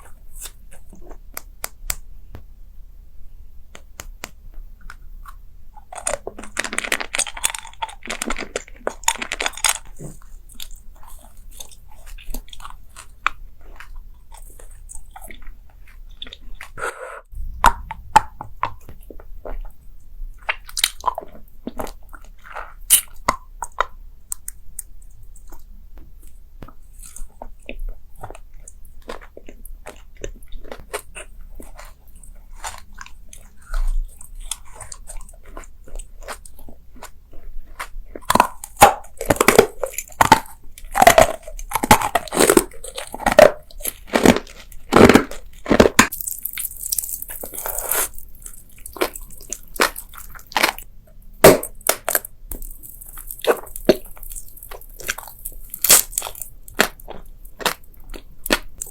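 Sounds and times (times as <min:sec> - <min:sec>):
crunching and chewing crisp food: 0:00.0 - 0:02.1, 0:03.7 - 0:58.9.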